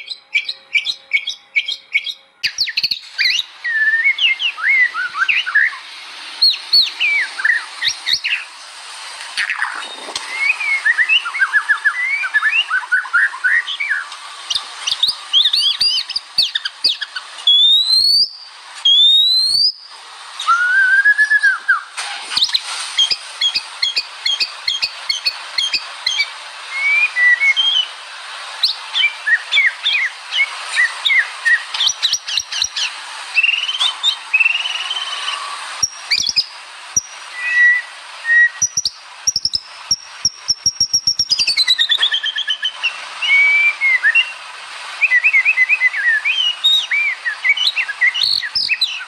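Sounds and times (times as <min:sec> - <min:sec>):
bird singing whistles and trills: 0:00.0 - 0:05.8, 0:06.4 - 0:08.5, 0:09.4 - 0:27.9, 0:28.6 - 0:44.4, 0:45.0 - 0:49.0.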